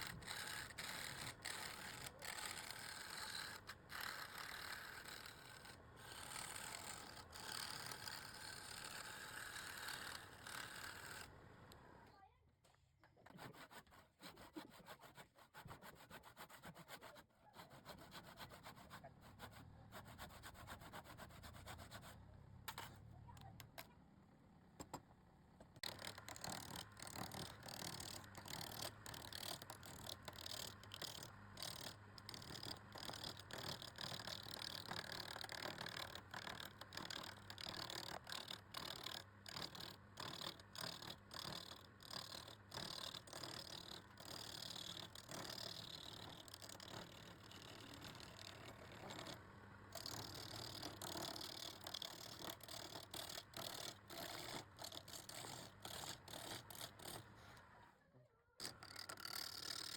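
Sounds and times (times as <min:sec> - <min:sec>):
hand scraping back and forth: 0:00.0 - 0:11.8, 0:13.2 - 0:23.9, 0:25.6 - 0:57.8, 0:58.6 - 0:59.9.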